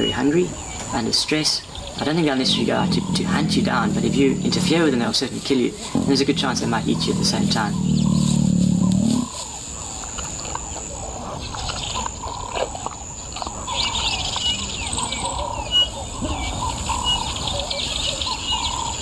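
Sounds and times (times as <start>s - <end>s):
wild birds chirping and trilling: 0.0s - 19.0s.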